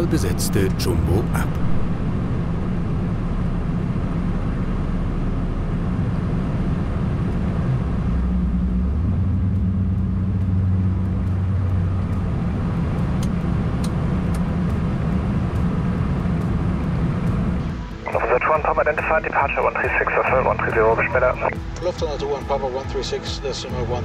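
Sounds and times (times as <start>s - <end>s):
steady low hum: 0.0s - 21.6s
jet engines low rumble: 0.0s - 24.0s.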